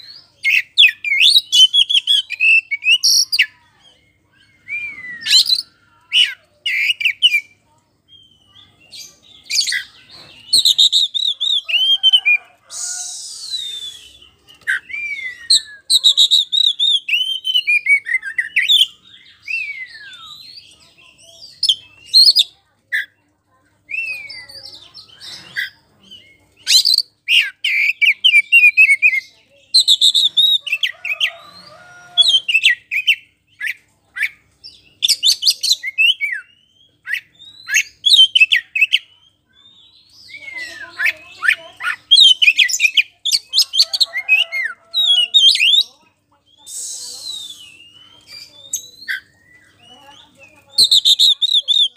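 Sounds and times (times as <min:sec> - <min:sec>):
bird song whistles and chirps: 0:00.0 - 0:22.5, 0:23.9 - 0:45.9, 0:46.5 - 0:51.9.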